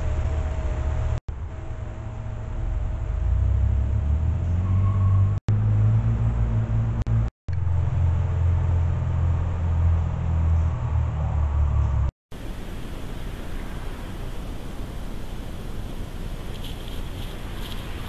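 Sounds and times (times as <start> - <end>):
steady low rumble: 0.0 - 4.6, 5.6 - 18.0.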